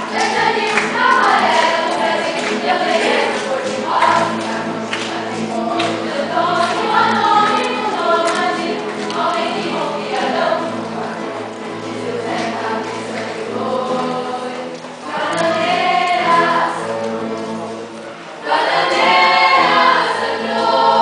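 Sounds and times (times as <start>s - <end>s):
acoustic guitars playing: 0.0s - 21.0s
choir singing: 0.0s - 21.0s.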